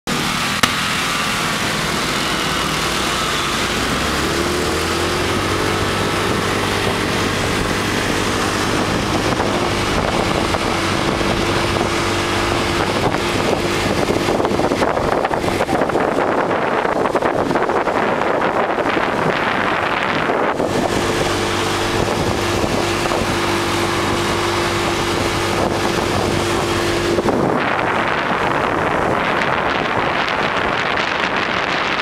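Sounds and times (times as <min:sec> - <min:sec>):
scooter engine accelerating: 0:00.1 - 0:32.0
wind buffeting microphone: 0:00.1 - 0:32.0.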